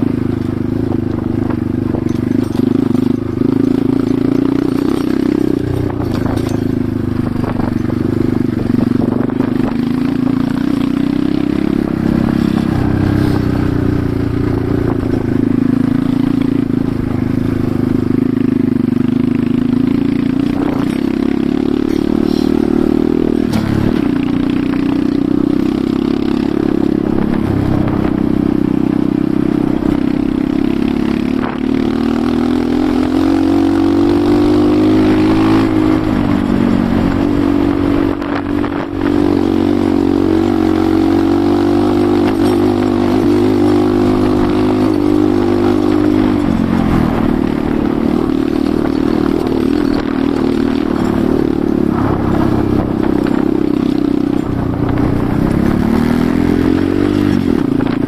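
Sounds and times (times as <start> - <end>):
motorcycle engine revving: 0.0 - 58.0
clatter: 0.2 - 28.7, 29.4 - 58.0.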